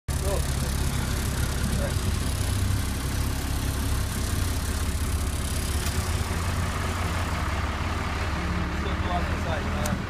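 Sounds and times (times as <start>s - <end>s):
bus engine rumbling: 0.1s - 10.0s.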